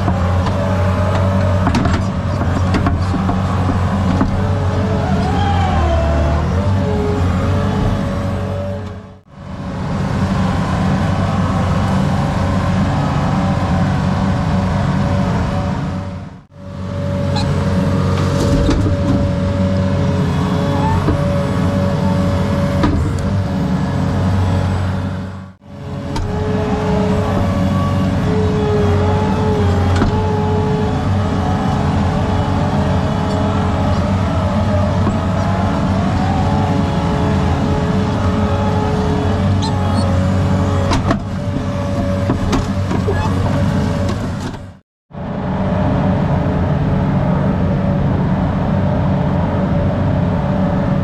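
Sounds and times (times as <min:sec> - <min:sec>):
construction machinery engine running: 0:00.0 - 0:51.0.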